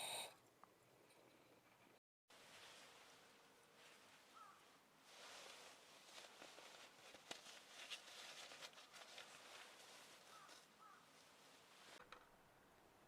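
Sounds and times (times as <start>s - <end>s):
faint rustling and crackling: 1.1s - 12.4s.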